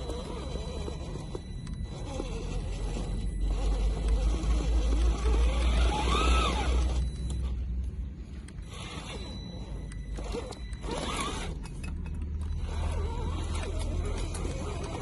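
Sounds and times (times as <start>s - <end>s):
toy car electric motor whining: 0.0s - 7.6s, 8.5s - 15.0s.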